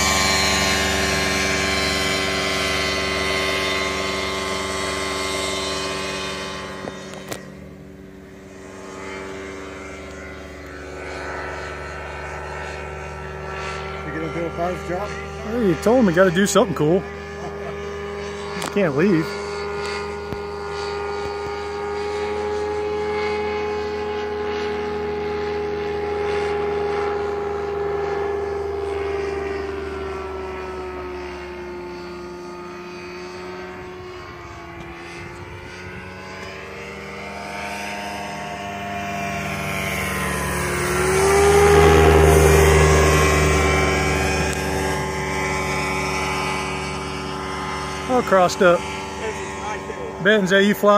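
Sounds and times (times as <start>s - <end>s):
propeller airplane engine droning: 0.0s - 50.9s.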